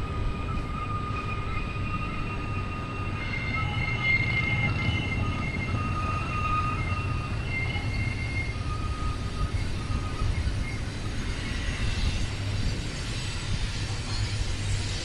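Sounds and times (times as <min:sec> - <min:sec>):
faint wheel squeals: 0:00.0 - 0:15.0
freight train cars rolling: 0:00.0 - 0:15.0.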